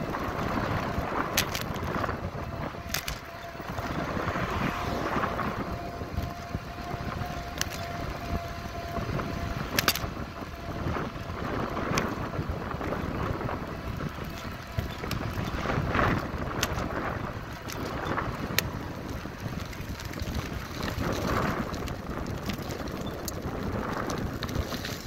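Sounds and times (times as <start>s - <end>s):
bicycle clicks over bumps: 0.0s - 25.0s
bicycle road rumble: 0.0s - 25.0s
wind buffeting microphone: 0.0s - 25.0s.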